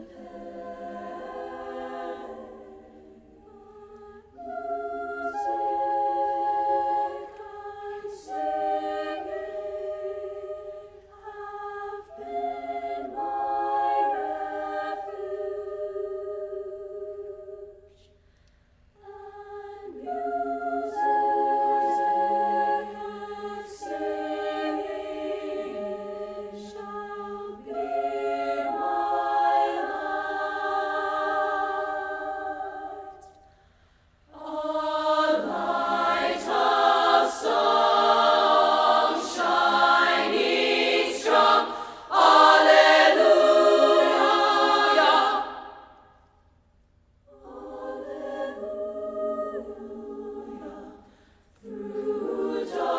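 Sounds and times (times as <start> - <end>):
choir singing held chords: 0.0 - 17.9, 19.0 - 46.3, 47.3 - 52.9.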